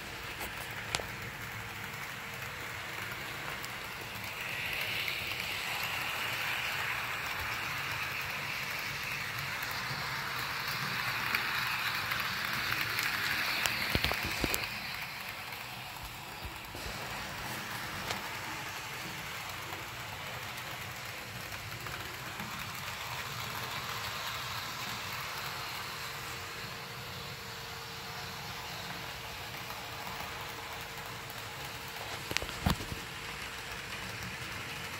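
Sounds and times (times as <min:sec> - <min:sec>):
model train whirring on track: 0:00.0 - 0:34.9.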